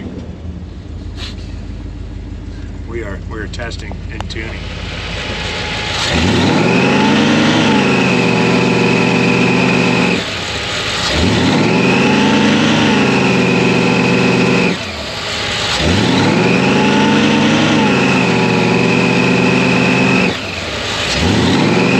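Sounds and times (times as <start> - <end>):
supercharged engine revving: 0.0 - 21.9
supercharger whine: 0.0 - 21.9.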